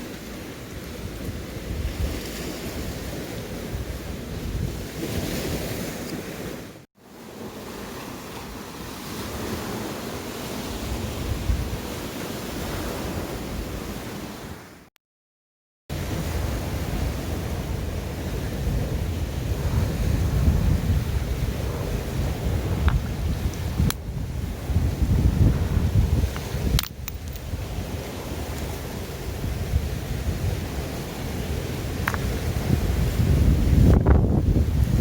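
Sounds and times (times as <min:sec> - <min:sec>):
sea surf washing on shore: 0:00.0 - 0:14.8, 0:15.9 - 0:35.0
wind buffeting microphone: 0:00.7 - 0:06.6, 0:08.8 - 0:14.6, 0:15.9 - 0:35.0.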